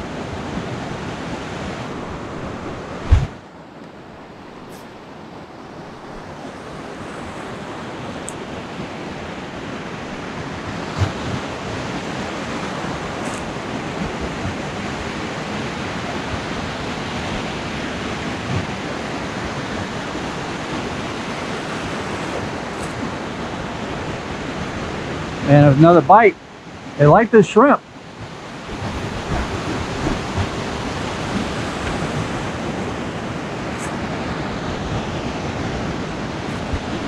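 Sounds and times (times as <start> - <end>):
ocean surf breaking on beach: 0.0 - 37.0.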